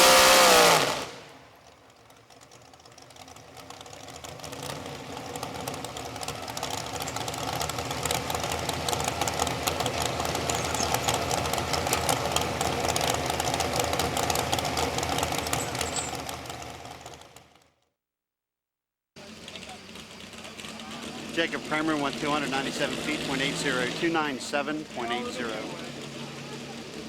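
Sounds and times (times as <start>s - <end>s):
truck engine rattling flat out: 0.0s - 17.8s, 19.2s - 27.0s.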